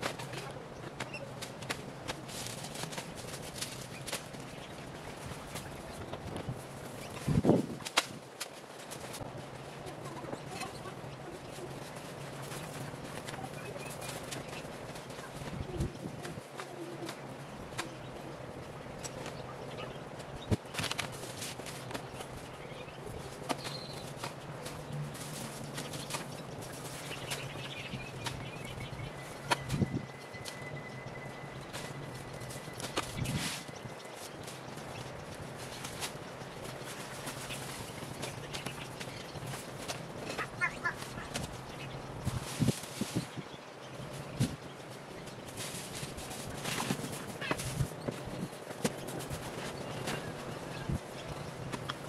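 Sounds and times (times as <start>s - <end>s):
rustling: 0.0s - 19.5s, 20.1s - 43.4s, 44.0s - 52.0s
low steady hum: 0.0s - 52.0s.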